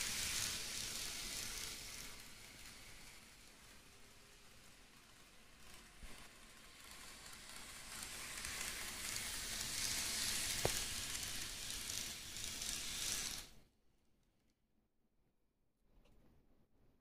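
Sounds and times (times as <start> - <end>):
model train motor whirring: 0.0 - 13.6.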